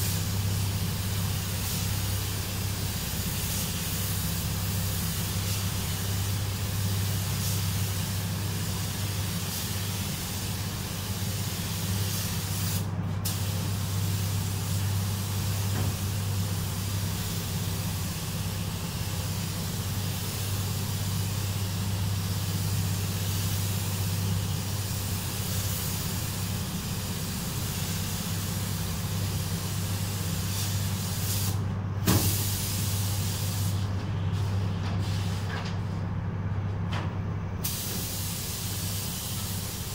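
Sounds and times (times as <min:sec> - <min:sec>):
spray gun hissing: 0:00.0 - 0:31.6, 0:32.2 - 0:33.8, 0:37.6 - 0:39.9
steady low hum: 0:00.0 - 0:39.9.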